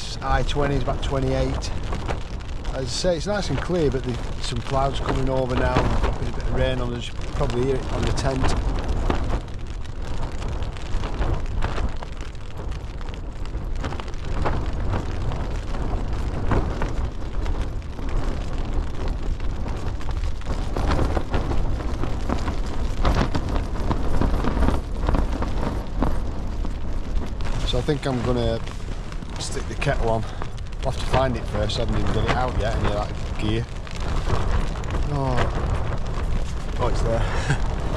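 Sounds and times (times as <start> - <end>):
rain tapping on tent fabric: 0.0 - 37.9
strong wind buffeting microphone: 0.0 - 37.9.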